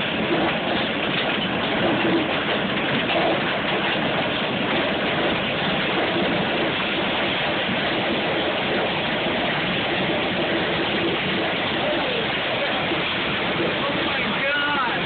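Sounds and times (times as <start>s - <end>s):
heavy hail and rain pounding: 0.0s - 15.0s.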